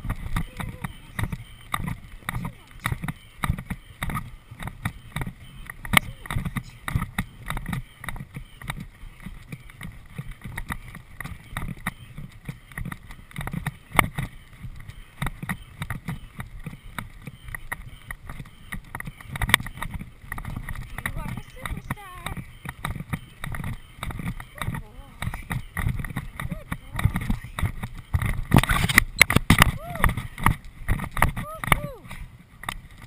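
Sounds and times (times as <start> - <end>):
horse hoofbeats on grass: 0.0 - 33.0.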